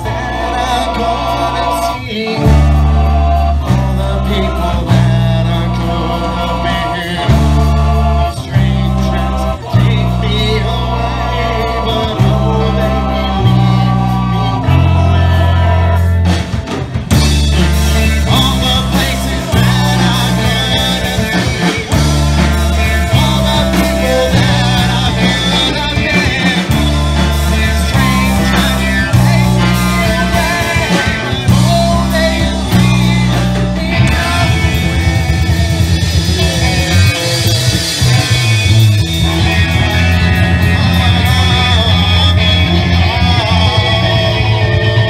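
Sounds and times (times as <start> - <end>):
live rock band playing: 0.0 - 45.0
male lead vocal: 0.0 - 45.0.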